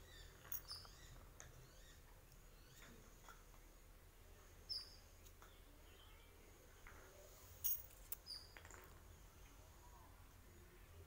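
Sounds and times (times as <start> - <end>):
small birds chirping: 0.0 - 7.4, 8.2 - 11.0.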